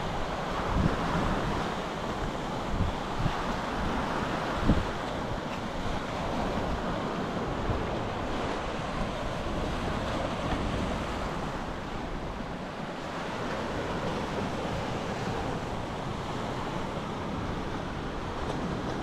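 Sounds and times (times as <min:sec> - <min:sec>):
sea waves washing ashore: 0:00.0 - 0:19.0
wind buffeting microphone: 0:00.0 - 0:19.0.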